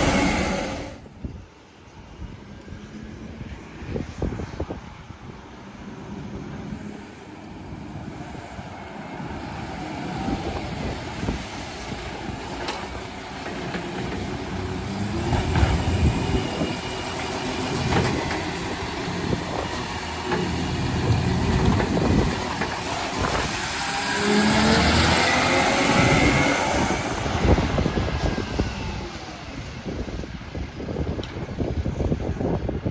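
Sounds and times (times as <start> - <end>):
garbage truck engine rumbling: 0.0 - 1.4, 5.9 - 31.1
wind on microphone: 0.0 - 32.9.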